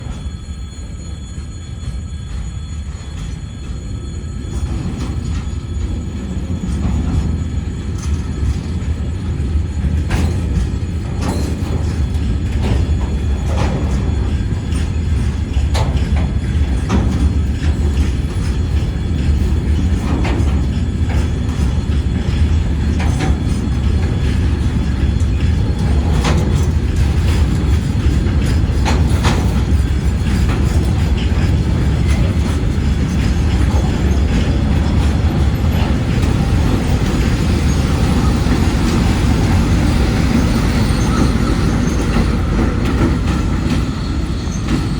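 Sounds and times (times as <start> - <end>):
locomotive engine drone: 0.0 - 44.9
wheels clicking over rail joints: 6.6 - 44.9.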